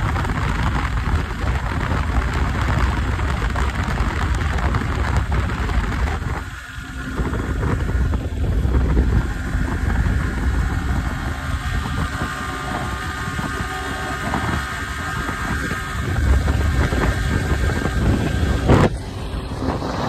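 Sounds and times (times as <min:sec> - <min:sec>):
motorcycle engine at high revs: 0:00.0 - 0:20.0
wind buffeting microphone: 0:00.0 - 0:20.0.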